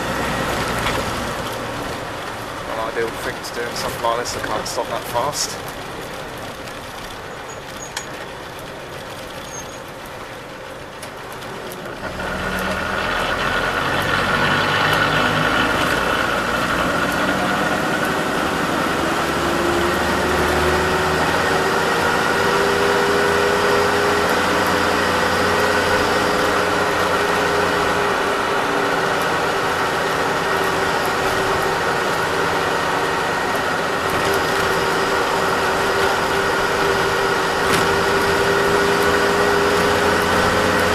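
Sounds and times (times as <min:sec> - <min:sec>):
coach engine accelerating: 0:00.0 - 0:40.9.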